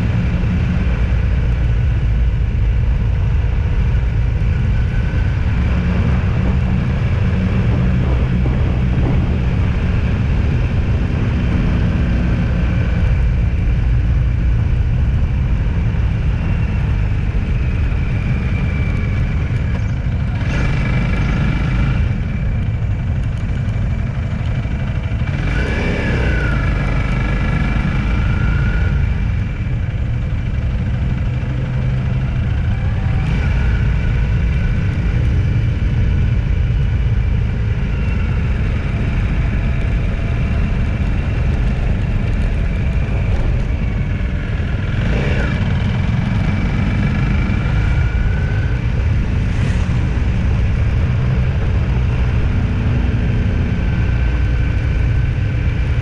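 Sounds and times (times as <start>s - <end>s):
engine and road noise rumble: 0.0s - 56.0s.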